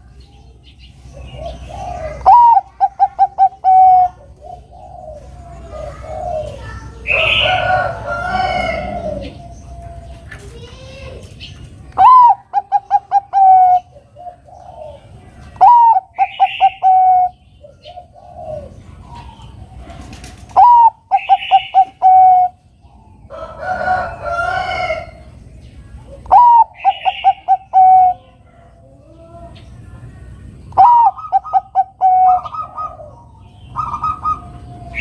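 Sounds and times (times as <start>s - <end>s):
dove cooing song: 0.0s - 35.0s.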